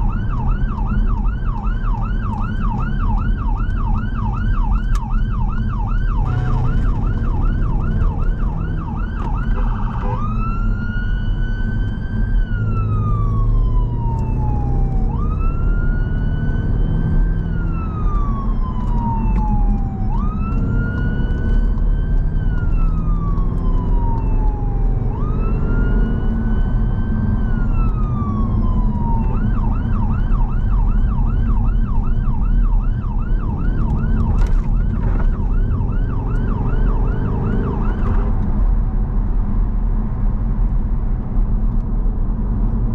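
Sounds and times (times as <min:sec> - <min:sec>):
two-tone electronic siren: 0:00.0 - 0:38.5
car engine and road noise: 0:00.0 - 0:42.9.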